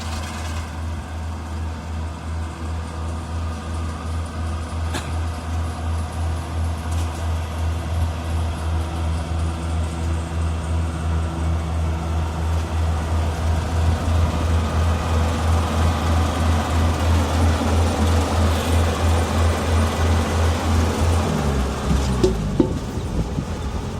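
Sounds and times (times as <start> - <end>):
combine harvester drone: 0.0 - 23.9.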